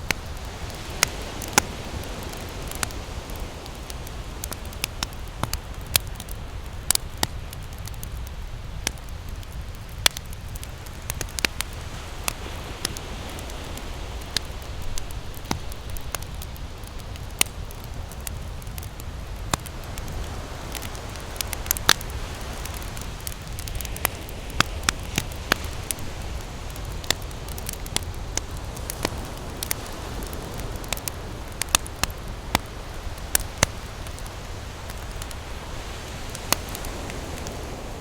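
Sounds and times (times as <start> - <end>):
ocean surf rushing: 0.0 - 6.5, 10.4 - 18.6, 19.2 - 38.0
campfire wood crackling: 0.0 - 38.0
sharp fire pops: 0.0 - 38.0.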